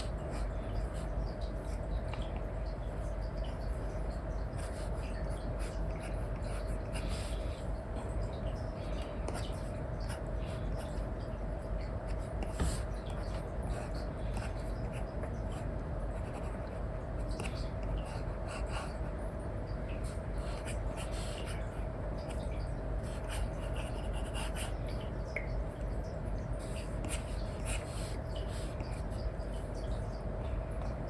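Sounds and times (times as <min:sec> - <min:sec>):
low hiss and hum: 0:00.0 - 0:31.0.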